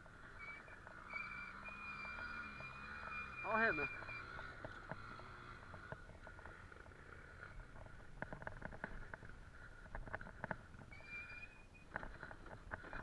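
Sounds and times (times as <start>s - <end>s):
distant motorcycle engine rumble: 0.0s - 13.0s.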